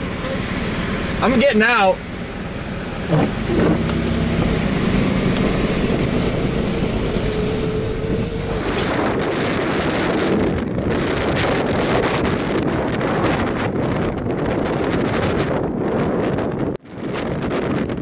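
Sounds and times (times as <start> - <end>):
storm surf rushing: 0.0 - 18.0
strong wind blasting microphone: 0.0 - 18.0
wind whistling: 0.0 - 18.0.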